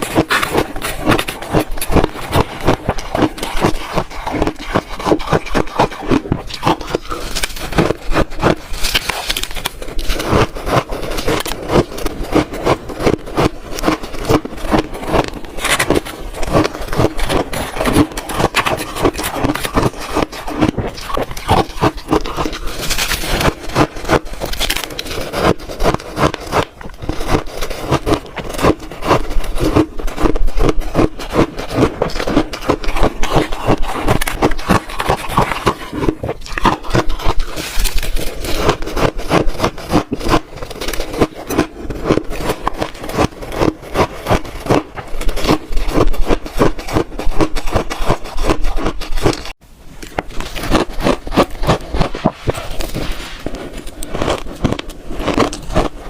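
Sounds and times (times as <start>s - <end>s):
shaved ice crunching: 0.0s - 49.4s.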